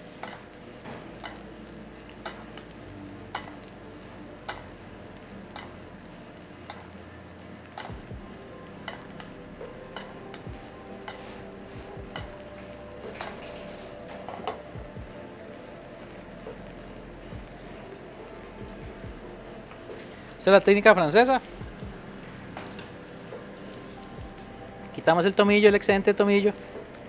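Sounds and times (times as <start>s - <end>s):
fish sizzling in butter: 0.0s - 27.0s.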